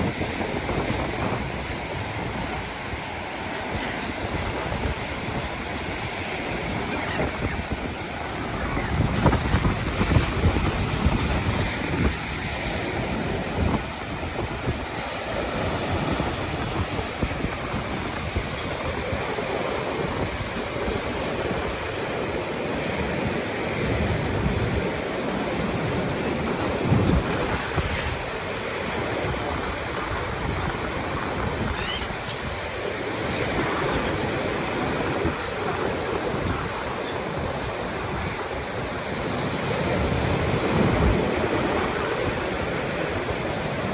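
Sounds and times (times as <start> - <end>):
storm surf breaking on beach: 0.0 - 43.9
wind gusting on microphone: 0.0 - 43.9.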